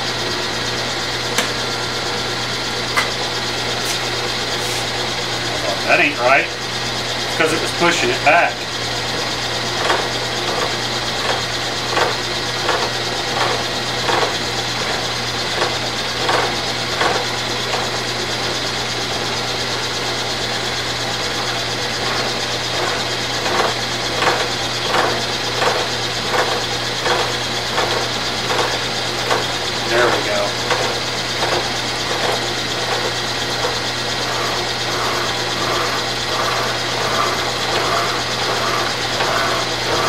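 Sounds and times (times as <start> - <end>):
milling machine hum: 0.0 - 40.0.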